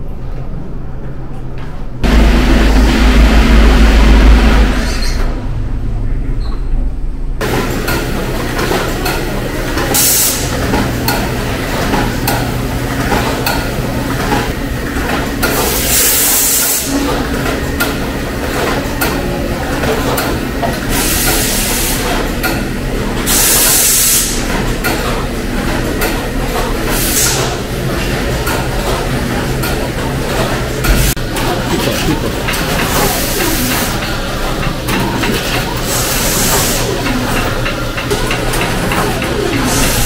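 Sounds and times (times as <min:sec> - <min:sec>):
machinery and conveyor hum: 0:00.0 - 0:40.0.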